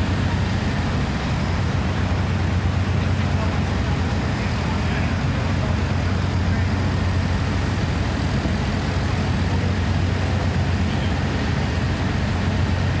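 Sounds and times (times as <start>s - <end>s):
diesel engines droning: 0.0s - 13.0s.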